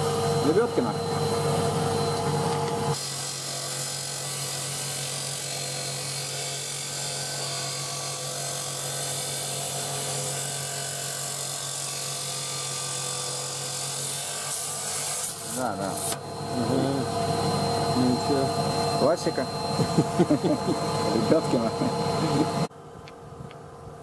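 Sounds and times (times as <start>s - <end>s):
stone saw motor hum: 0.0s - 22.7s.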